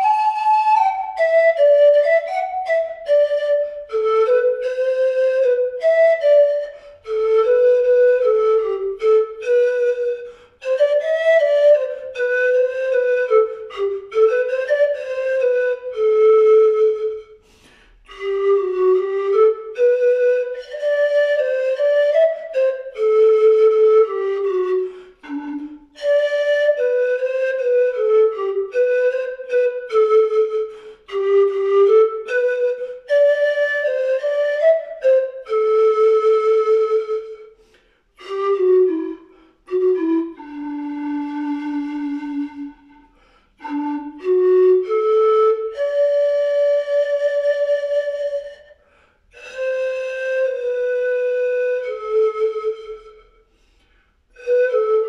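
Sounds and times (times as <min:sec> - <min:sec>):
slow solo flute melody: 0:00.0 - 0:55.0.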